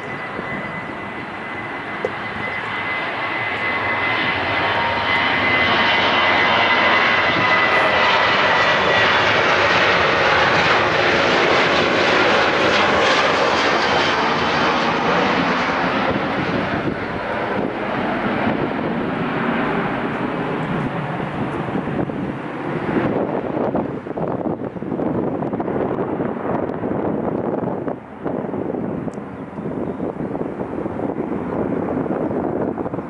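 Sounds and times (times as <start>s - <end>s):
jet engines at takeoff thrust: 0.0s - 33.0s.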